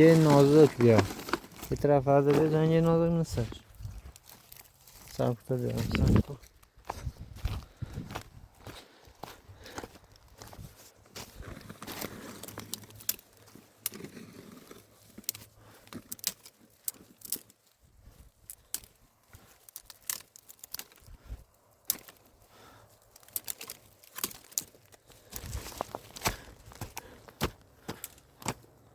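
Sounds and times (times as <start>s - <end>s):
rustling and handling noises: 0.0s - 28.9s.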